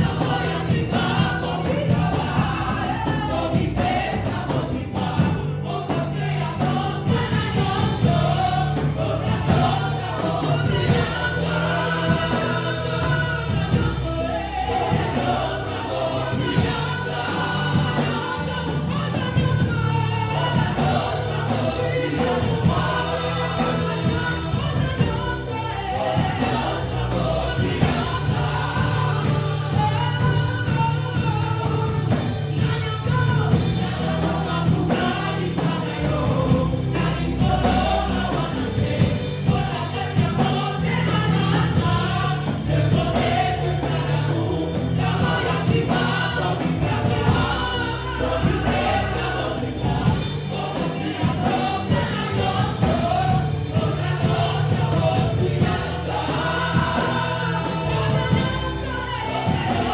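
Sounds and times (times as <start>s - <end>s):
gospel choir singing with band: 0.0s - 59.9s.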